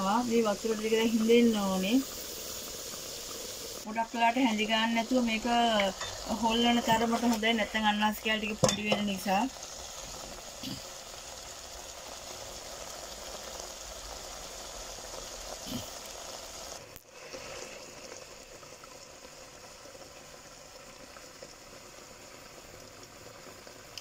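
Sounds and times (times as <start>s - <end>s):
syrup bubbling in a pot: 0.0s - 24.0s.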